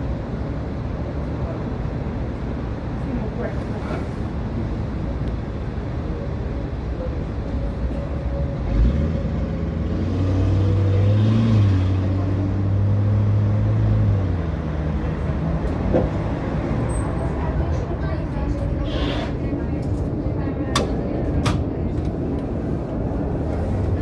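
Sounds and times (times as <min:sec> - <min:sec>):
tram rumbling along track: 0:00.0 - 0:24.0.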